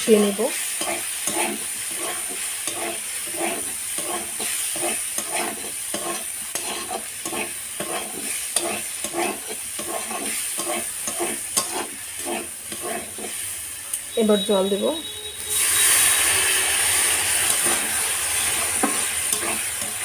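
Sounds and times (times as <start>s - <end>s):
food sizzling in oil: 0.0s - 20.0s
metal spatula scraping a pan: 0.1s - 13.4s, 15.4s - 20.0s.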